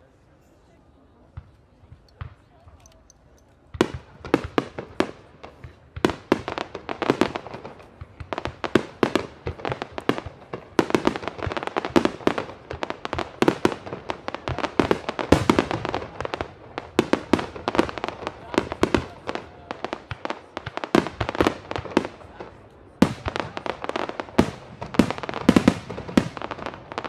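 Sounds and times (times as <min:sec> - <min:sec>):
fireworks sharp bangs: 0:03.6 - 0:27.0.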